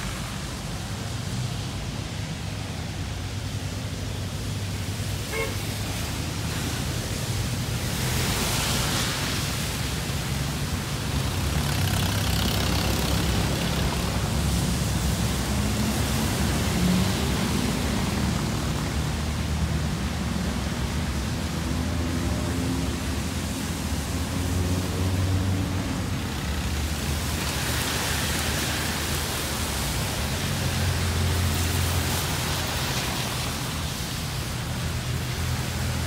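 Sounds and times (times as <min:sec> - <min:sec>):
tyres hissing on wet road: 0:00.0 - 0:36.0.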